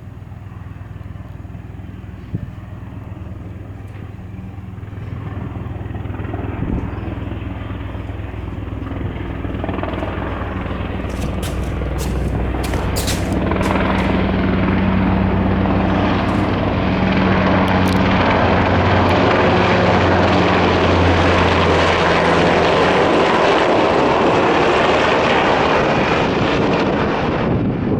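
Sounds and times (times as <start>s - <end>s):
aircraft flying low overhead: 0.0s - 27.9s.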